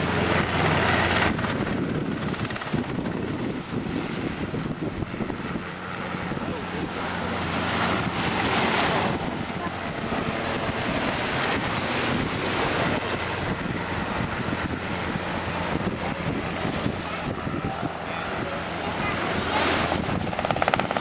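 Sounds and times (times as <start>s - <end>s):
helicopter flying past: 0.0s - 21.0s
surf washing: 0.0s - 21.0s
wind buffeting microphone: 0.0s - 21.0s.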